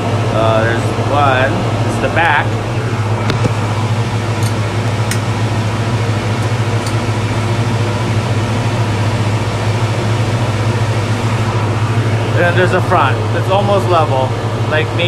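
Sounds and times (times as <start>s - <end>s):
grinding machine motor hum: 0.0s - 15.0s.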